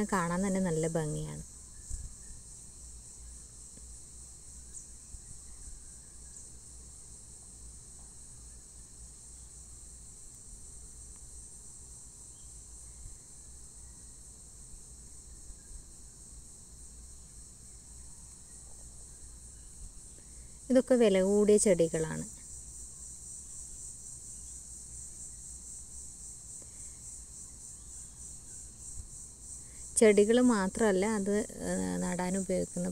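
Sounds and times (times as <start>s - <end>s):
insects chirring: 0.0s - 32.9s.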